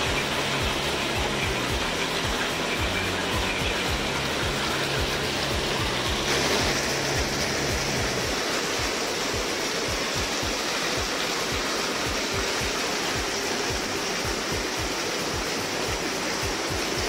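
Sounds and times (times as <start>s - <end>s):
background music with low beat: 0.0s - 17.0s
churning water of hot tub jets: 0.0s - 17.0s.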